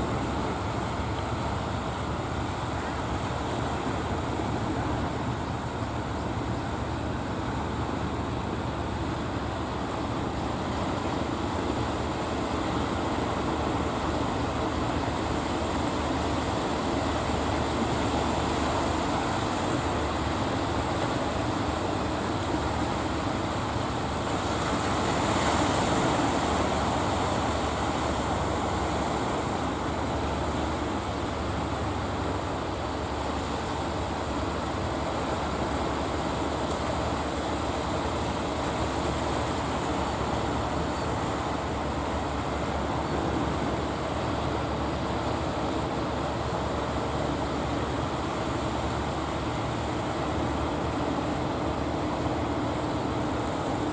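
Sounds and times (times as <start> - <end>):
boat engines rumbling: 0.0 - 53.9
waves and bow spray: 0.0 - 53.9.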